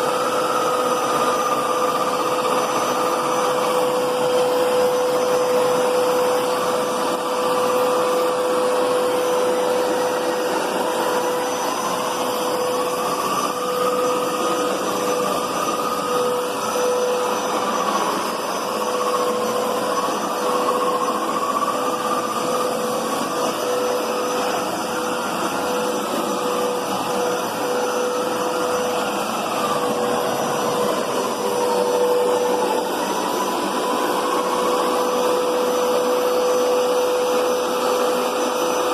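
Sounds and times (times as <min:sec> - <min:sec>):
carpet cleaner motor whining: 0:00.0 - 0:38.9
wavering tone: 0:00.0 - 0:38.9.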